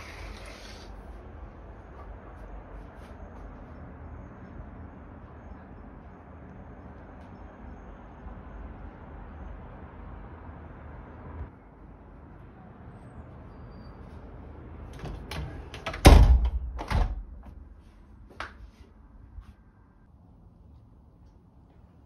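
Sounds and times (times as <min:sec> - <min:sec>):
faint street traffic: 0:00.0 - 0:22.0.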